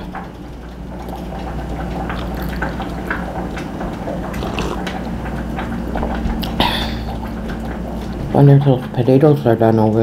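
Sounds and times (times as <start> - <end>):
low kitchen hum: 0.0 - 10.0.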